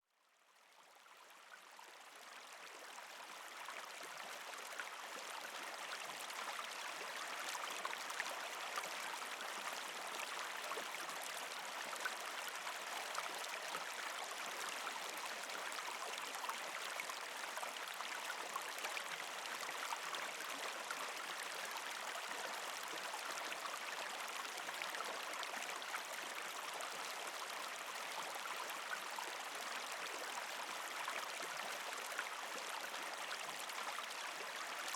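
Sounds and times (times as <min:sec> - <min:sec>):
creek flowing over rocks: 0:00.6 - 0:34.9.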